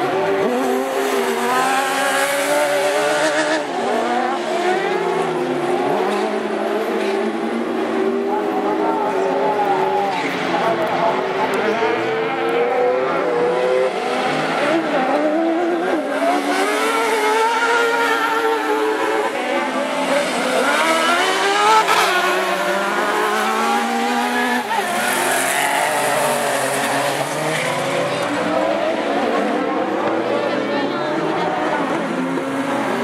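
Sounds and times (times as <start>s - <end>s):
racing engines revving: 0.0s - 33.0s.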